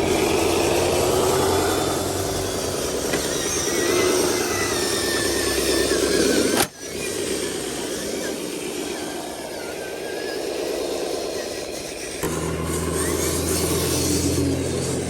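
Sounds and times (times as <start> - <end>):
truck diesel engine running: 0.0 - 8.2, 10.3 - 15.0.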